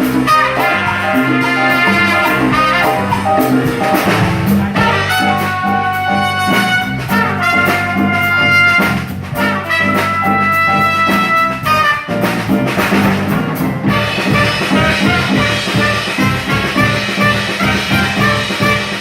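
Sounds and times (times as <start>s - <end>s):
bass and drums accompaniment: 0.0s - 19.0s
trumpet melody: 0.0s - 19.0s.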